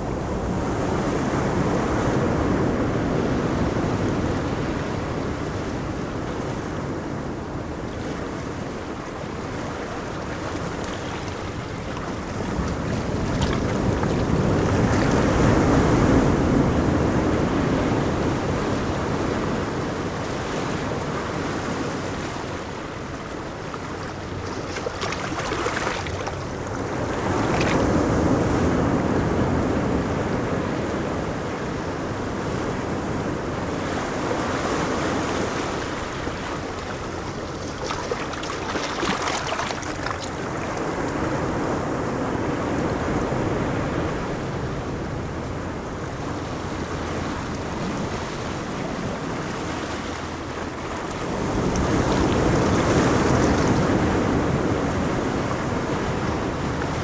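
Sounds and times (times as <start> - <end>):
ocean waves breaking on beach: 0.0 - 57.0
wind rumbling on microphone: 0.0 - 57.0.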